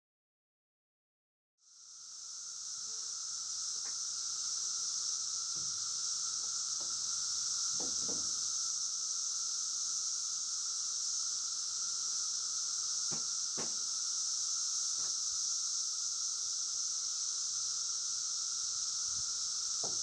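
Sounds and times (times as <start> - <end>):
steady high-pitched hiss: 1.6 - 20.0.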